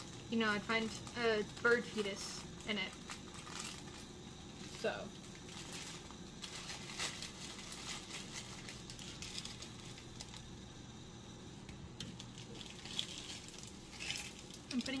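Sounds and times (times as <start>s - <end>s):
faint crackles: 0.0s - 10.6s, 11.6s - 15.0s
low background hum: 0.0s - 15.0s.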